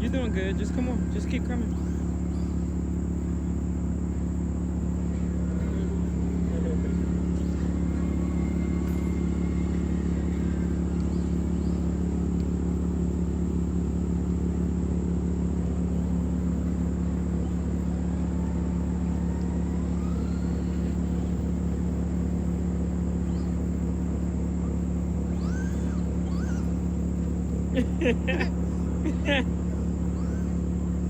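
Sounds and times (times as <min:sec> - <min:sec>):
faint whines: 0:00.0 - 0:31.0
low mechanical hum: 0:00.0 - 0:31.0.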